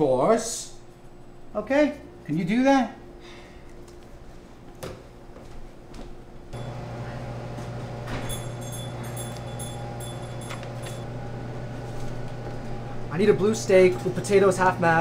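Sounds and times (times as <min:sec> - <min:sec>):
kitchen equipment hum: 0:00.0 - 0:15.0.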